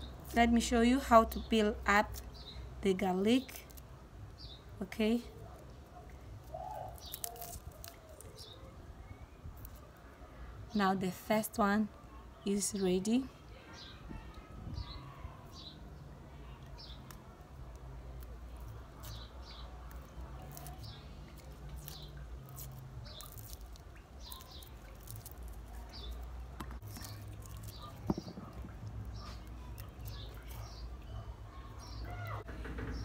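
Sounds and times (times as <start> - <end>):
small birds chirping: 0.0 - 11.0, 12.1 - 33.0.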